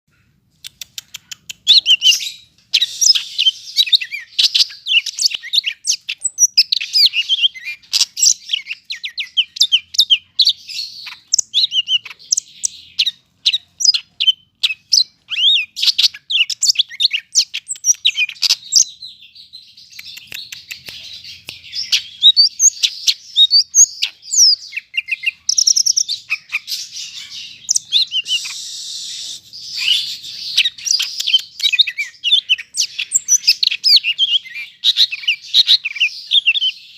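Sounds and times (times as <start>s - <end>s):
bird singing chirps and whistles: 1.4s - 36.9s.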